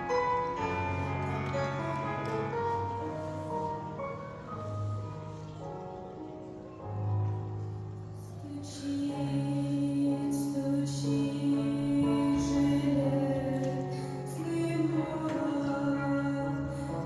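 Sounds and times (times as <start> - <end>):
slow song with held notes: 0.0 - 17.0.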